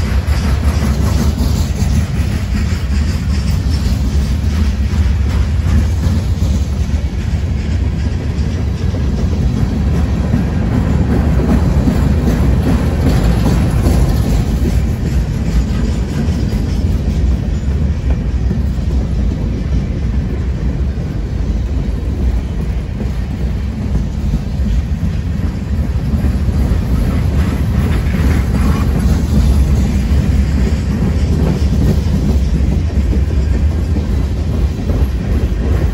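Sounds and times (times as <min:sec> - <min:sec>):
freight train wheels rumbling: 0:00.0 - 0:35.9
light clickety-clack of wheels: 0:00.0 - 0:35.9.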